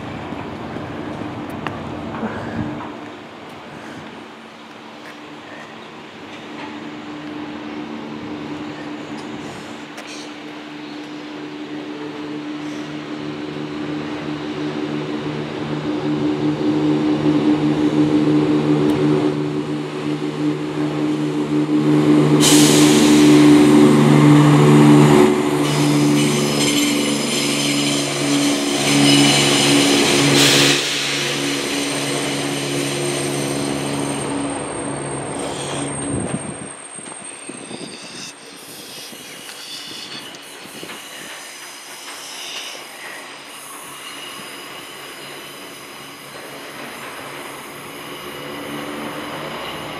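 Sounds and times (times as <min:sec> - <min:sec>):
diesel locomotive droning hum: 0:00.0 - 0:49.9
passing train wheel and rail rush: 0:00.0 - 0:49.9.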